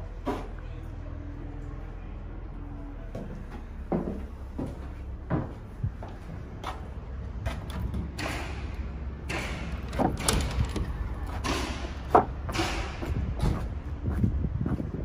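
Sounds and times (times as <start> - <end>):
low rumble: 0.8 - 15.0.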